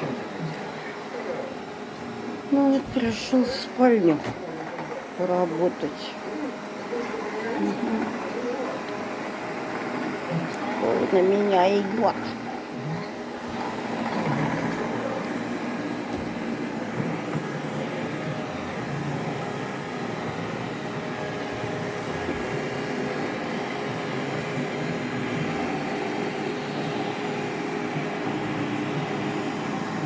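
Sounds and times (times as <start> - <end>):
robot vacuum cleaner humming: 0.0 - 30.0.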